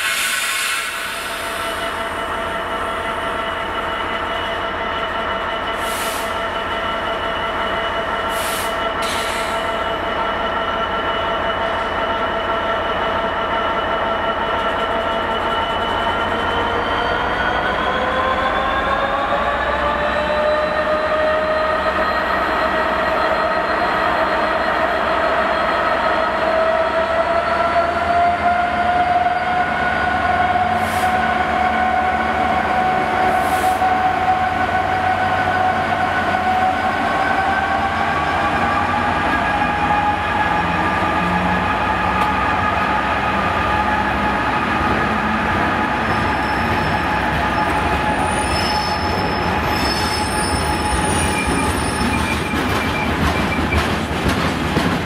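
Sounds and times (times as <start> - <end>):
diesel locomotive engine drone: 0.0 - 55.0
locomotive whine: 0.0 - 55.0.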